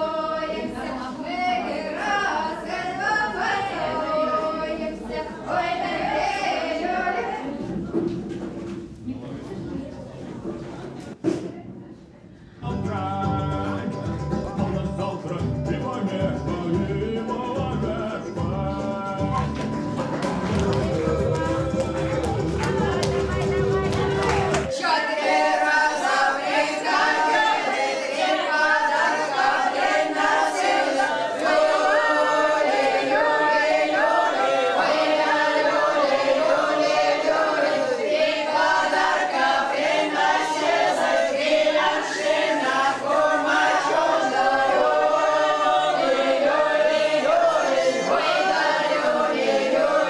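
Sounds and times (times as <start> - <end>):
group singing without instruments: 0.0 - 7.8, 12.6 - 50.0.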